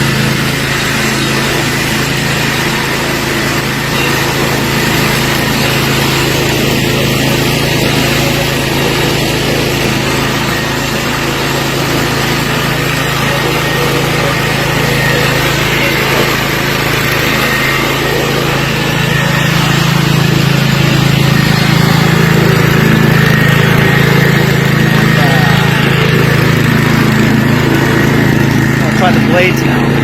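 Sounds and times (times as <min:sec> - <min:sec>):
riding lawn mower engine running: 0:00.0 - 0:30.0.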